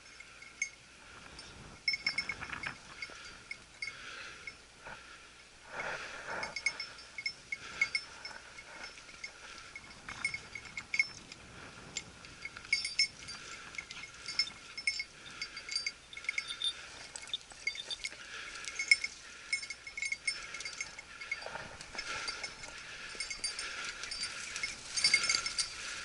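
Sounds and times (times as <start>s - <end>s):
dog collar bell jingling: 0.0s - 4.6s, 6.3s - 26.0s.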